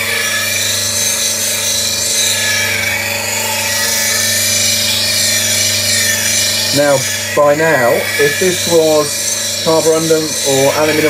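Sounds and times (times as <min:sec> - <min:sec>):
grinder motor hum: 0:00.0 - 0:11.0
tool grinding hiss: 0:00.0 - 0:11.0.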